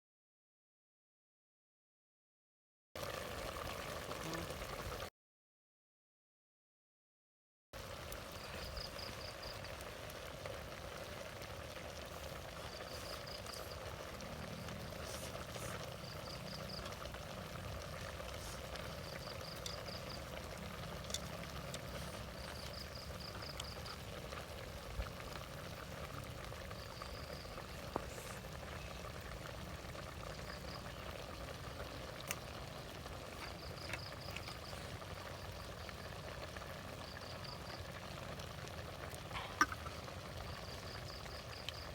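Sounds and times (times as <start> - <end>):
steady rain falling: 8.1 - 41.9.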